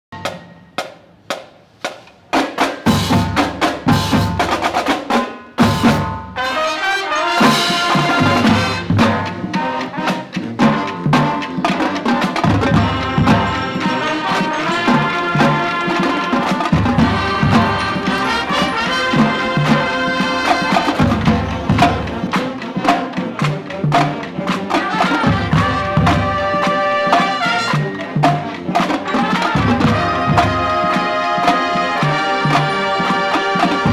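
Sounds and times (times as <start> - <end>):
music with drums and brass: 0.1 - 33.9.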